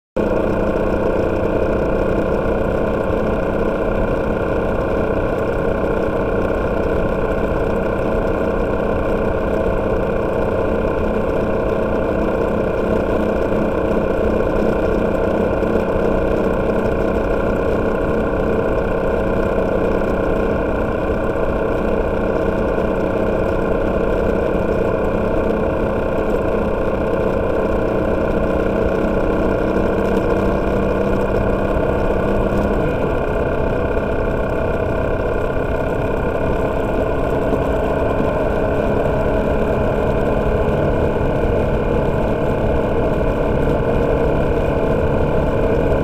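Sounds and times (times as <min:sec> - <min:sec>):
motorcycle engine running: 0:00.2 - 0:46.0.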